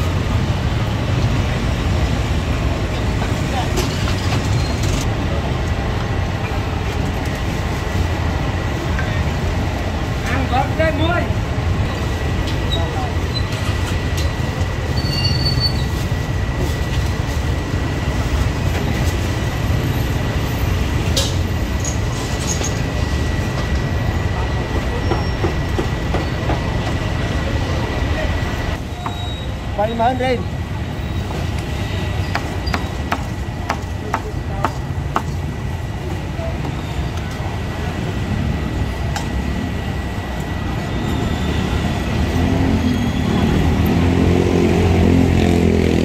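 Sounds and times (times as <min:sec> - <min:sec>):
street market rumble: 0:00.0 - 0:46.0.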